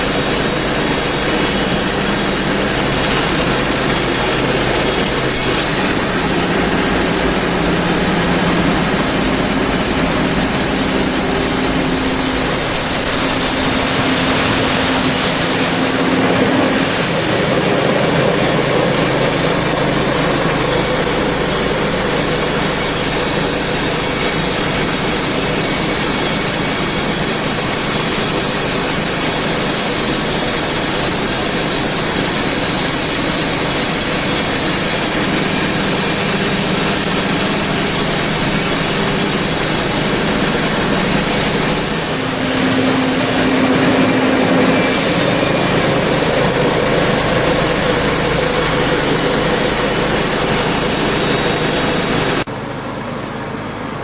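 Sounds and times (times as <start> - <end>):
sawmill engine and saw running: 0.0 - 54.0.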